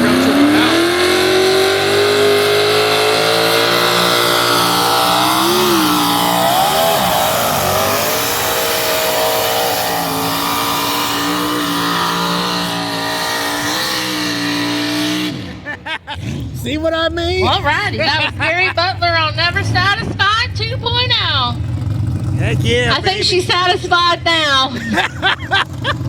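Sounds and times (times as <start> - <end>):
tractor engine at high revs: 0.0 - 26.0.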